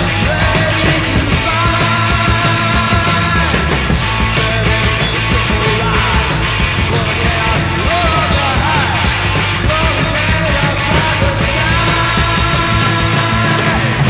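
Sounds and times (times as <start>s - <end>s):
speed metal band playing: 0.0s - 14.0s.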